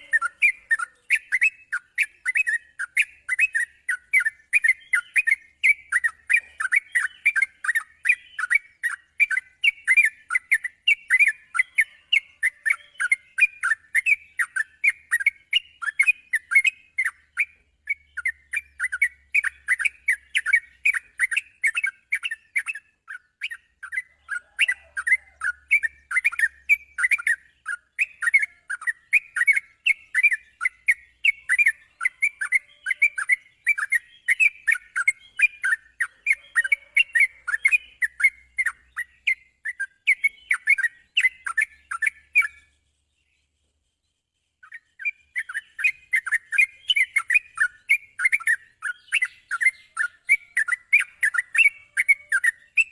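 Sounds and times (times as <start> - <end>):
bird chattering in bubbly chirps: 0.0 - 42.6.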